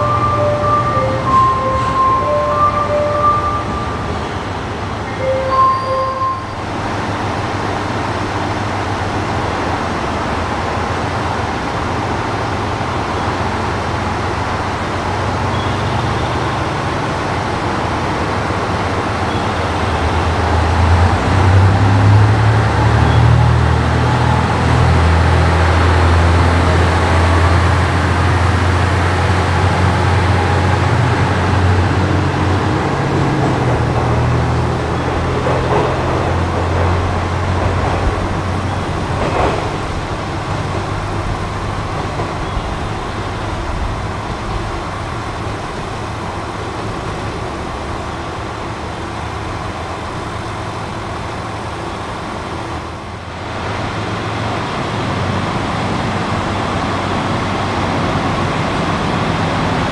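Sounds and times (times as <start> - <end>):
diesel railcar engine rumbling: 0.0 - 59.9.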